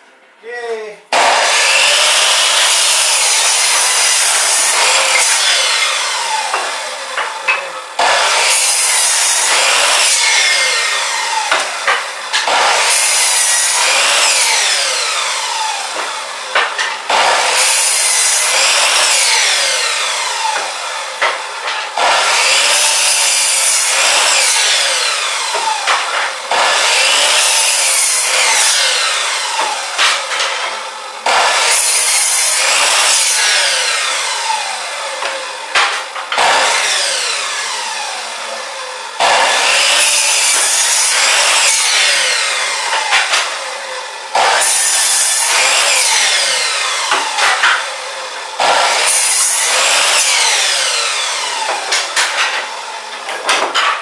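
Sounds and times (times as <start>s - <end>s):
chop saw cutting wood: 1.1s - 54.0s.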